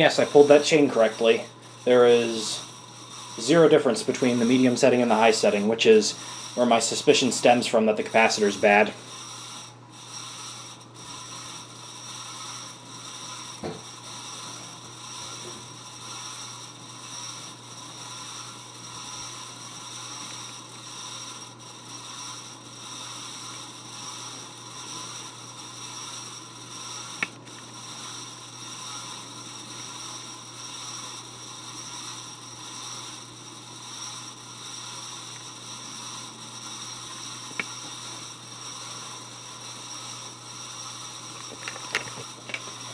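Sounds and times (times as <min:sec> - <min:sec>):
ceiling fan bearing noise: 0:00.0 - 0:42.9.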